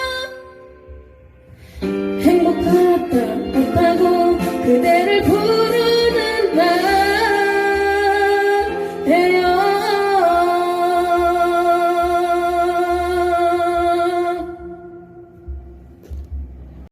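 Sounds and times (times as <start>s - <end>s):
person singing wordless notes: 0.0s - 15.8s
instrumental backing: 0.0s - 16.9s.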